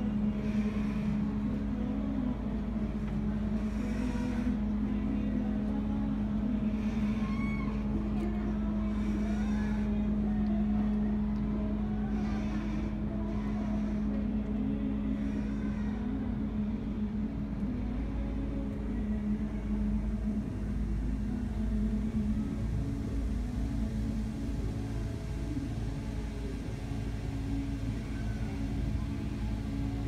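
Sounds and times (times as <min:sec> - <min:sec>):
boat engine drone: 0:00.0 - 0:30.0.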